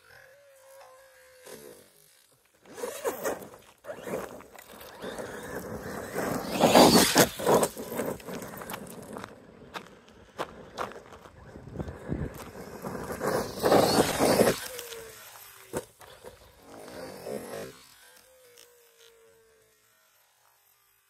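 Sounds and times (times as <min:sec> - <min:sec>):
rc truck tyres scraping gravel: 0:00.0 - 0:21.0.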